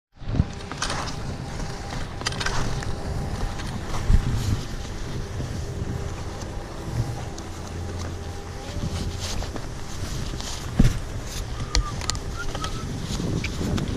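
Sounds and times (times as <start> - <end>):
wind buffeting microphone: 0.2 - 13.9
skis scraping on snow: 0.3 - 13.9.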